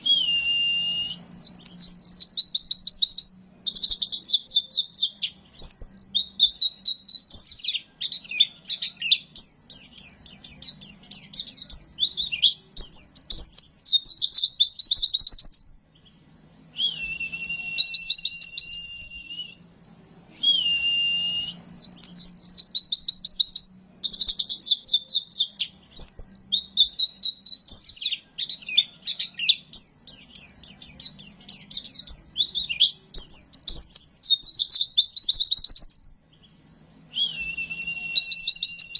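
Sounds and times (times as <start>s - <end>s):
bird whistled notes: 0.0s - 15.9s, 16.6s - 19.6s, 20.3s - 36.2s, 37.0s - 38.9s
bird chattering and trilling: 0.0s - 20.8s, 21.4s - 38.9s.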